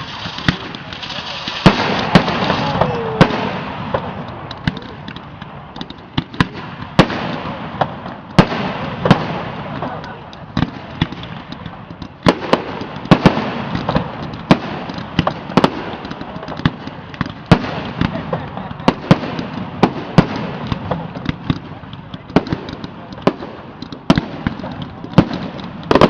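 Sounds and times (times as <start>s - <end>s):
fireworks bangs and pops: 0.0s - 26.0s
fireworks crackle: 0.0s - 26.0s.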